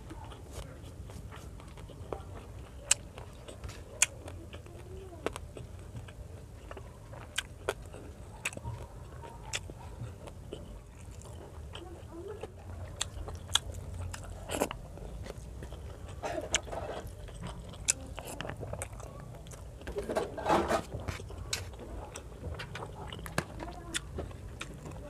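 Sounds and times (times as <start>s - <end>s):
person chewing: 0.1s - 20.1s, 20.7s - 25.0s.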